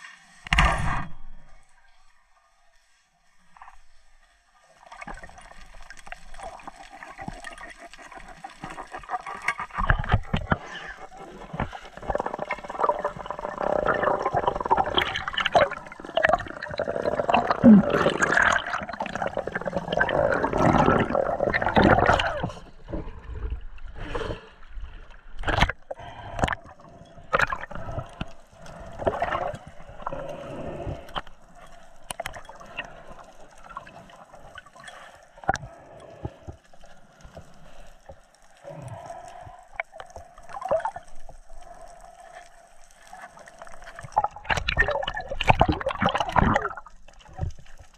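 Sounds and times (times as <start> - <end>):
underwater water rushing and bubbling: 3.3 - 47.9.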